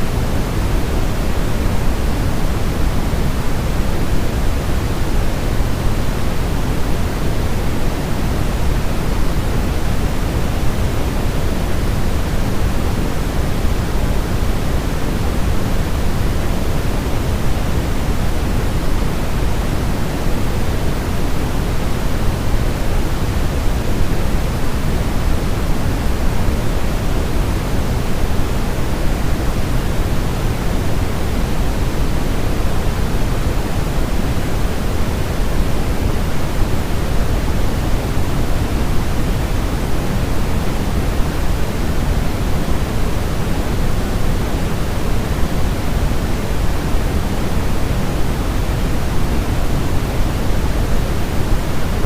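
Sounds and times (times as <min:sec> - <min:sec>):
steady white noise: 0:00.0 - 0:52.0.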